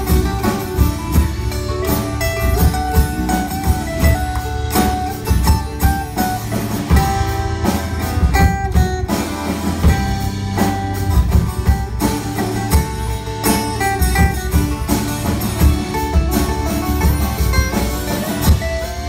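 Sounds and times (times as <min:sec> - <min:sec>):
drum kit steady beat: 0:00.0 - 0:19.0
mandolin: 0:00.0 - 0:19.0
strummed acoustic guitars: 0:00.0 - 0:19.0.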